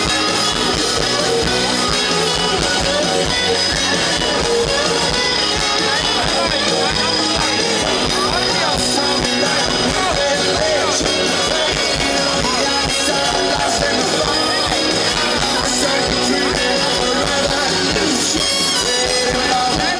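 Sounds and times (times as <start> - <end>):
rock music with singing: 0.0 - 19.9.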